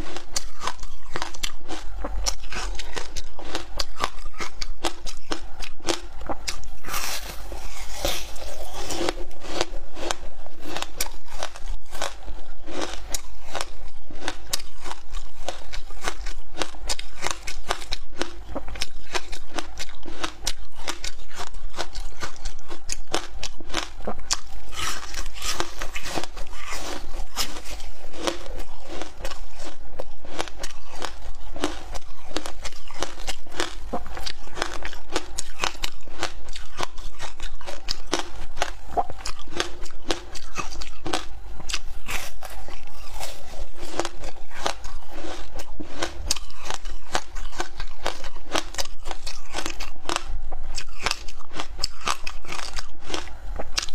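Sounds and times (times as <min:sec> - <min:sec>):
ice crunching between teeth: 0:00.0 - 0:53.9.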